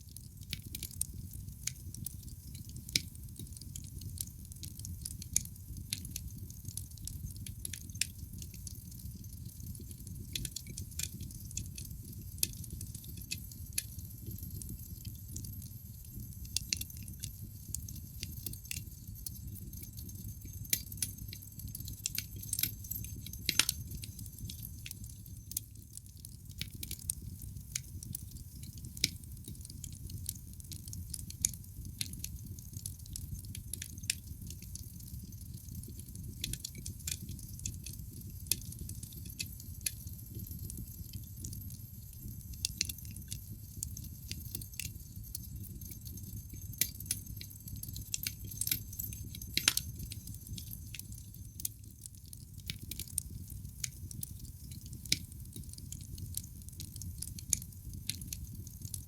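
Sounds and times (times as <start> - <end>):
wood fire crackling and popping: 0.0 - 59.0
low rumble of flames: 0.2 - 59.0.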